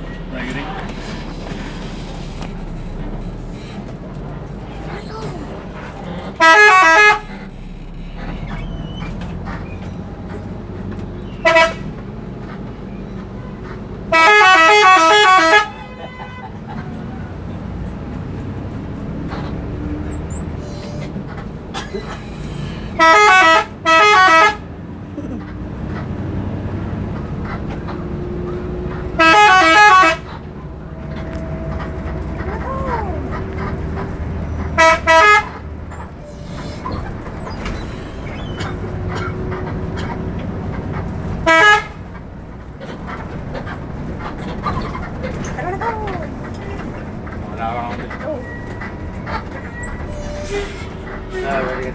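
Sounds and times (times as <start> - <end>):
bus engine: 0.0 - 51.9
road noise: 0.0 - 51.9
multi-tone bus horn blasts: 4.8 - 8.4, 10.3 - 51.9.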